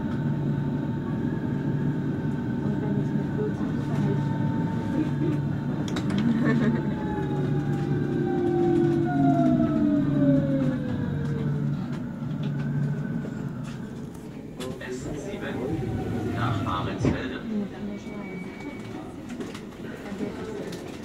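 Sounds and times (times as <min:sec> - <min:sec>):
electric train motor whine: 0:00.0 - 0:17.4
low running hum: 0:00.0 - 0:17.8.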